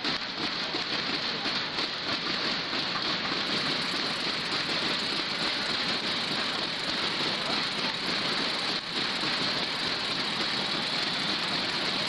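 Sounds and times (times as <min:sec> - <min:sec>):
crowd clapping: 0:00.0 - 0:12.0
crowd voices: 0:00.0 - 0:12.0.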